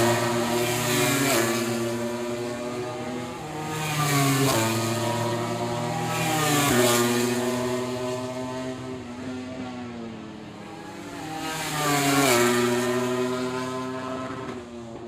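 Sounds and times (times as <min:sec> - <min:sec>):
racing motorcycles passing by: 0:00.0 - 0:15.0.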